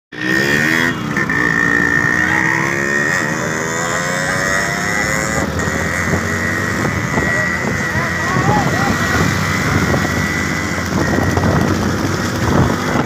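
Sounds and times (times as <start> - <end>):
motorcycle engine accelerating: 0.1 - 13.0.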